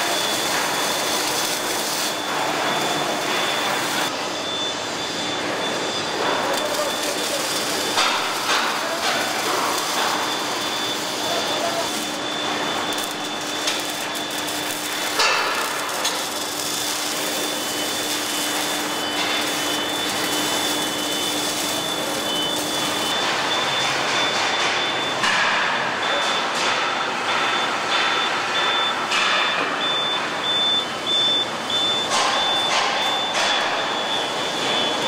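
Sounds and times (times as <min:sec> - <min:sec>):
short electronic beeps: 0:00.0 - 0:25.3, 0:25.9 - 0:35.0
machinery noise: 0:00.0 - 0:35.0.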